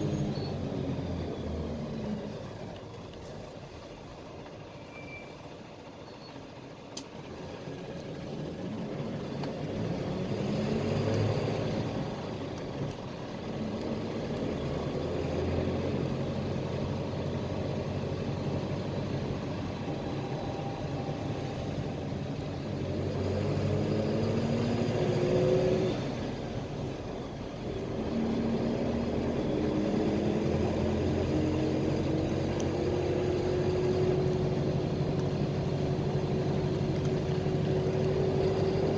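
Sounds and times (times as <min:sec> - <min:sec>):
bus engine accelerating: 0:00.0 - 0:38.9.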